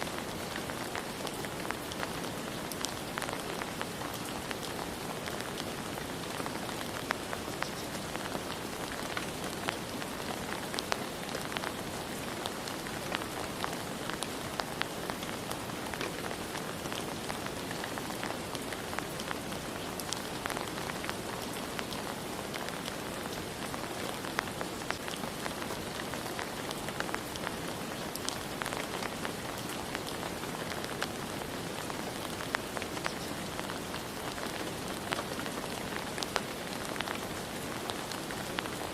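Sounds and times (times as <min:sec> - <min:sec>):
raindrops pattering on surfaces: 0:00.0 - 0:38.9
steady rain hiss: 0:00.0 - 0:38.9.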